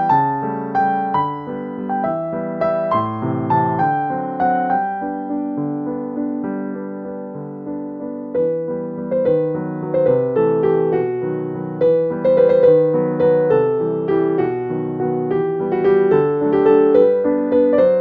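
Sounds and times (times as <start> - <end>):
gentle keyboard melody: 0.0 - 18.0.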